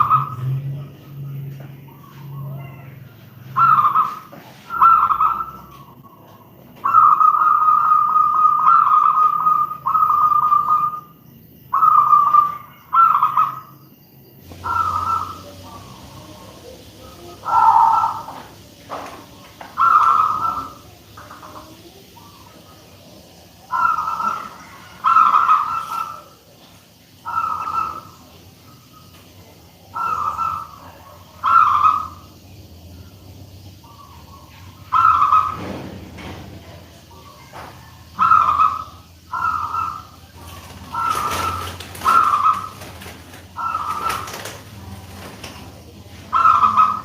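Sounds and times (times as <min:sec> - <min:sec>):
dove cooing: 0:00.0 - 0:33.2, 0:33.8 - 0:47.0.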